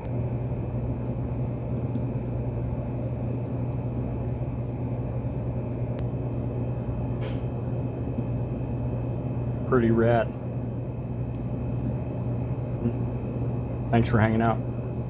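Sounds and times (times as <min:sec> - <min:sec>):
low mechanical hum: 0:00.0 - 0:15.0
machine rumble: 0:00.0 - 0:15.0.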